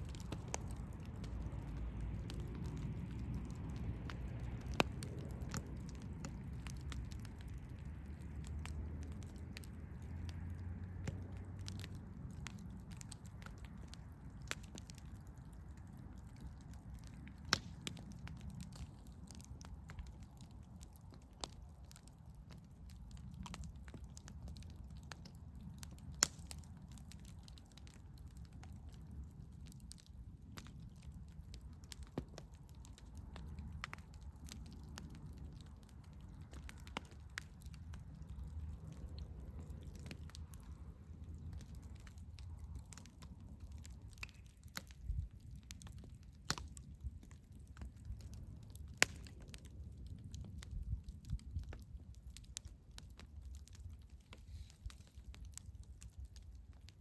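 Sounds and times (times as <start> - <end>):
campfire flames rumbling: 0.0 - 57.0
wood crackling and popping: 0.0 - 57.0.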